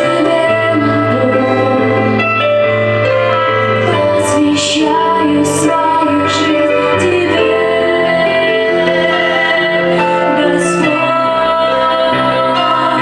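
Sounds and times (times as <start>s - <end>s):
woman singing worship song: 0.0s - 2.2s, 3.8s - 13.0s
sustained keyboard chords: 0.0s - 13.0s.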